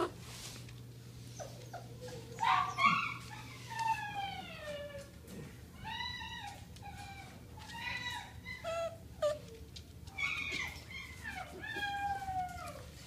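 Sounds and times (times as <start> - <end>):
puppies whining: 1.3 - 13.0.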